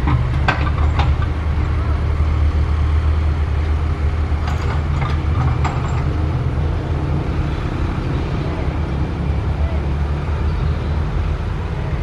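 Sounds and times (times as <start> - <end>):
excavator diesel engine rumble: 0.0 - 12.0.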